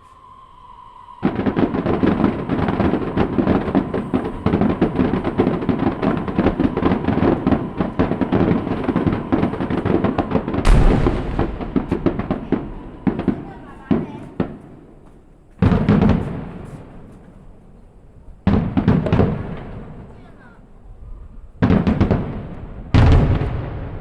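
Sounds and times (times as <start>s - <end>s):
fireworks bangs and crackling: 1.2s - 17.4s, 18.4s - 20.4s, 21.6s - 24.0s.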